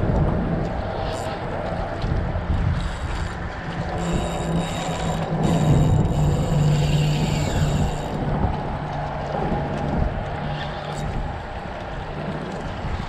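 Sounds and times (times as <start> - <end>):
fishing reel gears whirring: 0.5 - 12.6.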